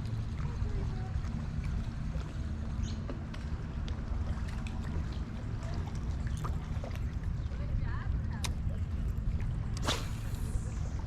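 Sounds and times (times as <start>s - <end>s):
steady low rumble: 0.0s - 11.0s
water lapping against kayak hull: 0.0s - 11.0s.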